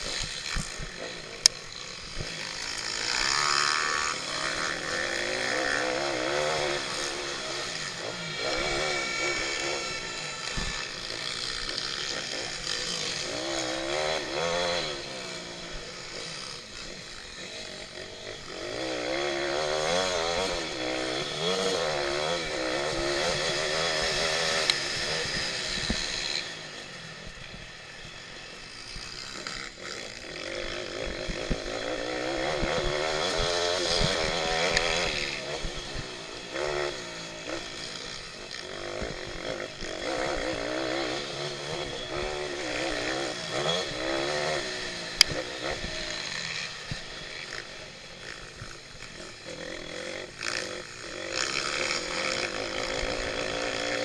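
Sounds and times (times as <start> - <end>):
small motorbike engine revving: 0.0 - 54.0.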